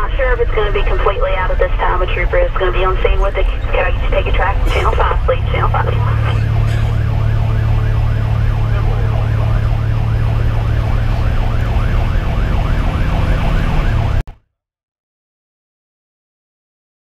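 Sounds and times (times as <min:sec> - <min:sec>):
siren yelping: 0:00.0 - 0:14.2
truck diesel engine droning: 0:00.0 - 0:14.2.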